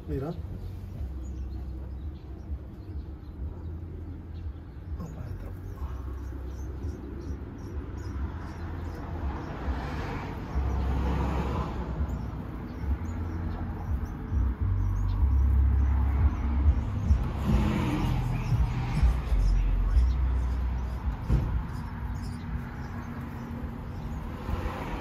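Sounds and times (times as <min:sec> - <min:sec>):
nestling birds peeping: 0:00.0 - 0:25.0
street traffic rumble: 0:00.0 - 0:25.0.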